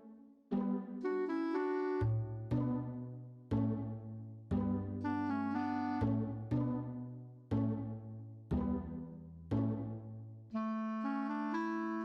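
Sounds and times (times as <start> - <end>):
instrumental background music chords: 0.0 - 12.0.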